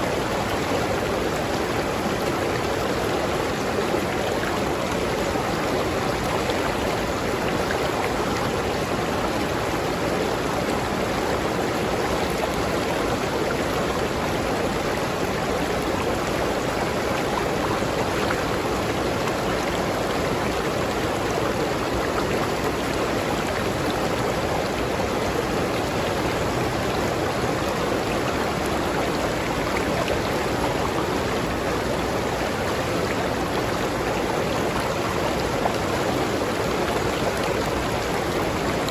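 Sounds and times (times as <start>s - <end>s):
river stream flowing: 0.0s - 38.9s.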